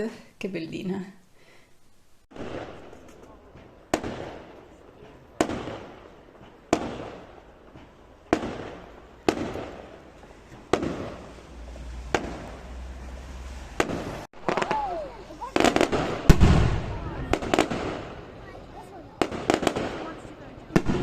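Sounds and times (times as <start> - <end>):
fireworks bangs with echo: 2.3 - 21.0.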